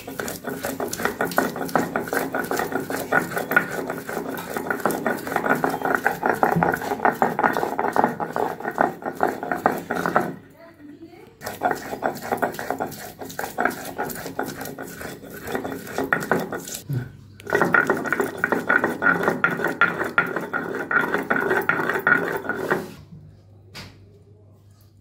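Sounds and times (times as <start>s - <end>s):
stone grinding on stone slab: 0.0s - 10.5s, 11.4s - 23.1s.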